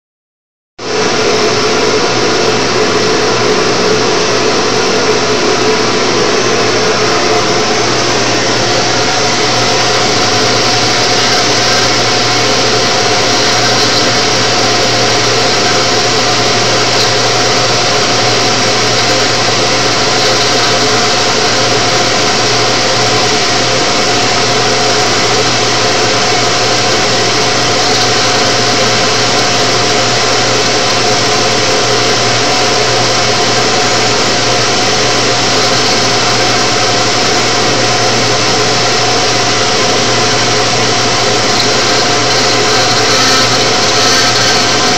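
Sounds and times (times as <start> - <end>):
cnc router engraving plastic: 0.9 - 44.9.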